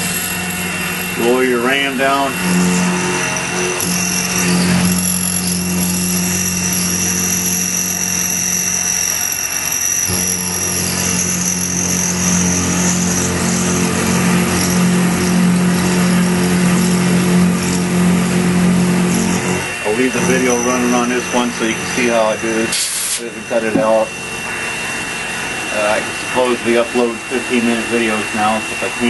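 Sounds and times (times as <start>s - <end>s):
high whine of milling cutter: 0.0s - 29.0s
milling machine motor humming: 0.0s - 29.0s.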